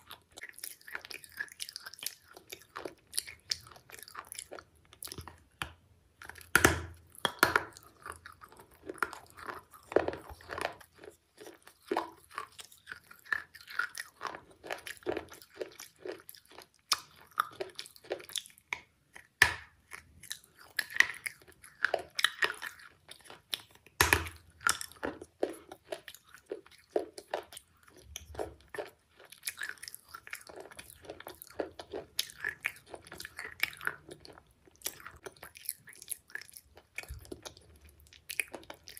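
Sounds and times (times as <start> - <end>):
chewing pottery crunches: 0.0 - 38.9.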